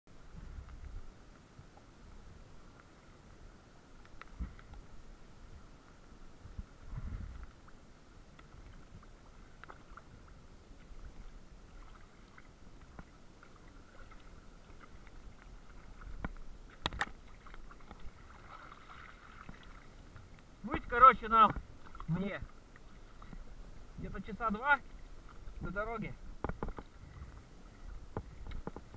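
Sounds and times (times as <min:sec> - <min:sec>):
water sloshing and splashing: 0:03.9 - 0:28.9.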